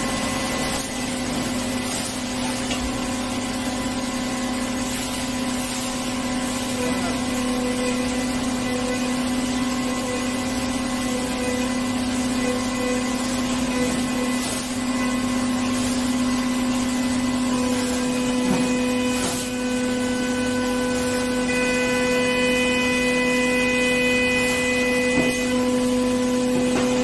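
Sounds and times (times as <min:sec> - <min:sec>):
milling machine cutting: 0:00.0 - 0:27.0.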